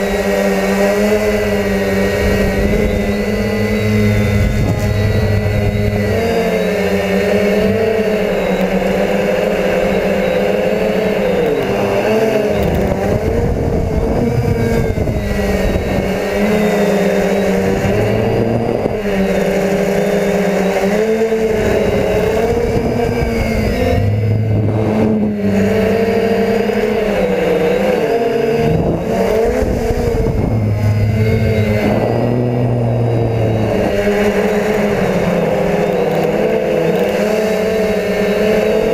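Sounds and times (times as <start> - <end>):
quadcopter propellers buzzing: 0.0 - 38.9.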